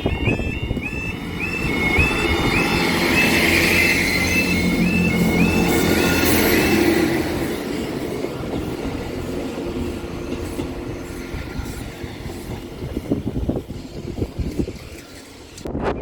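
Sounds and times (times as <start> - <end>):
wheels clicking over rail joints: 0.0 - 15.9
train rumbling: 0.0 - 16.0.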